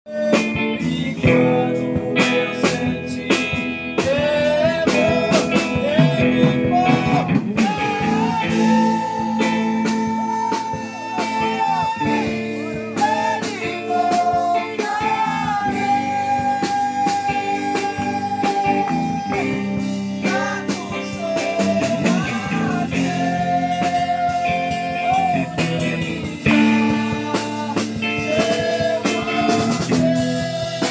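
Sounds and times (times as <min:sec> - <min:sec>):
blues-rock guitar music: 0:00.1 - 0:30.9.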